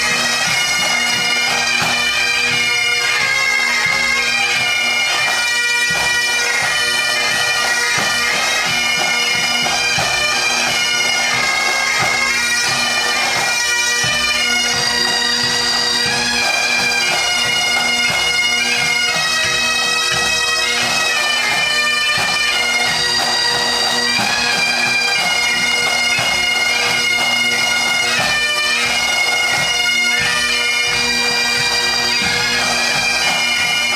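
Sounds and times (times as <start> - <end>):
bagpipes playing melody over drone: 0.0 - 33.9.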